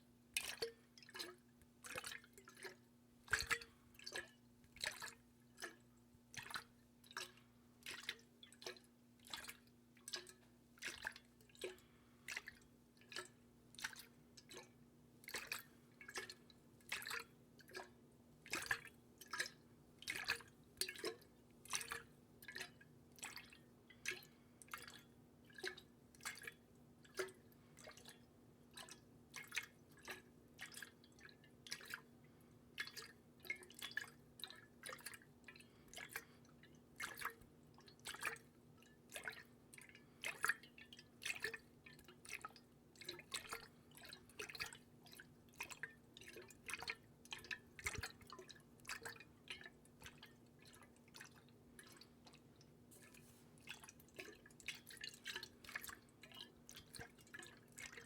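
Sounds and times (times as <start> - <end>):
faint steady hum: 0.0 - 58.0
water dripping: 0.4 - 58.0.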